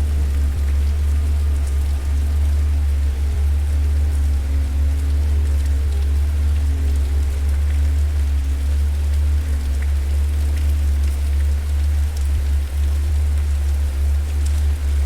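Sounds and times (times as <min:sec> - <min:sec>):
deep rumble of burning fire: 0:00.0 - 0:15.0.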